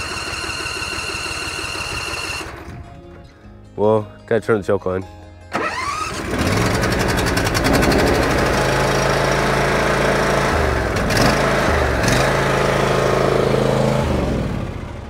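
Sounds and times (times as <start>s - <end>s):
lawnmower engine running: 0.0s - 3.2s, 5.5s - 15.0s.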